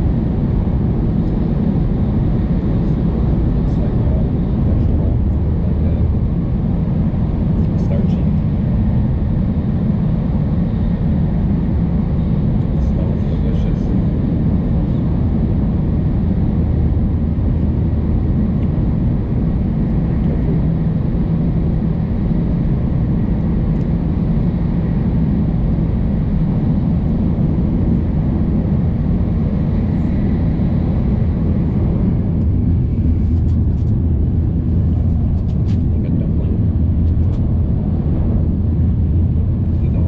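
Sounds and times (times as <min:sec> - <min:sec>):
train cabin rumble and hum: 0:00.0 - 0:40.0.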